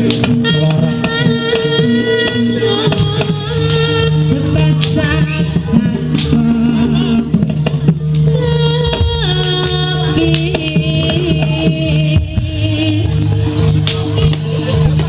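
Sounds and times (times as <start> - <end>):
person singing: 0.0 - 14.8
drum strokes: 0.0 - 15.0.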